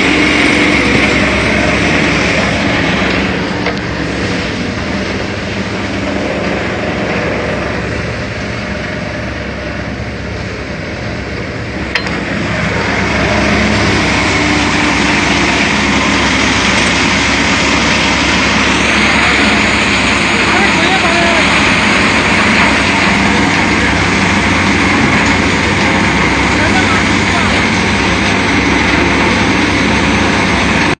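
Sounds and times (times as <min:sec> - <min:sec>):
thresher engine running: 0:00.0 - 0:30.9.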